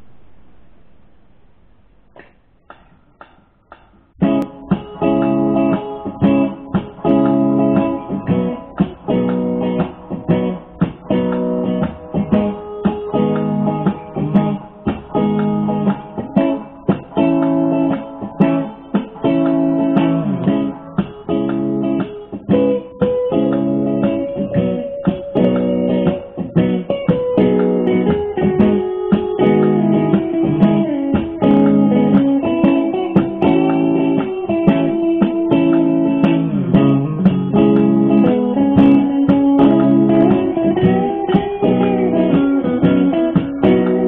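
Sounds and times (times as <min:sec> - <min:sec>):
electric guitar strummed chords: 0:04.2 - 0:44.0.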